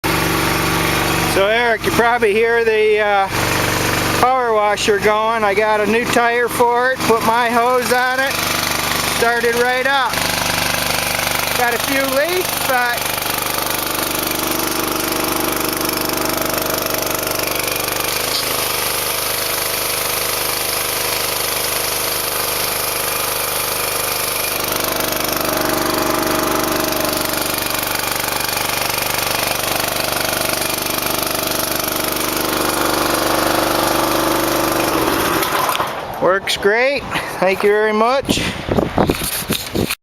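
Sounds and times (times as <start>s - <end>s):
pressure washer engine running: 0.0s - 37.7s.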